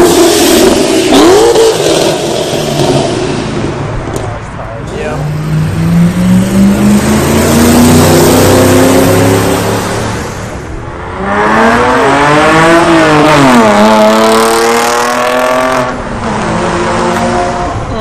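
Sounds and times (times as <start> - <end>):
car accelerating hard: 0.0 - 4.3, 4.9 - 18.0
loud car engine revving: 0.0 - 18.0.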